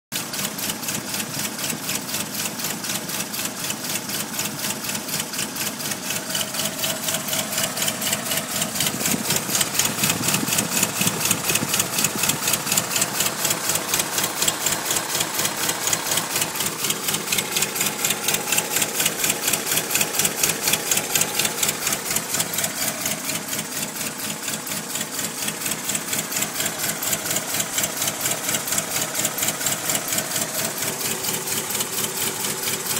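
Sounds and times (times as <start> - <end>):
engine ticking clatter: 0.1 - 32.9
engine running: 0.2 - 32.9.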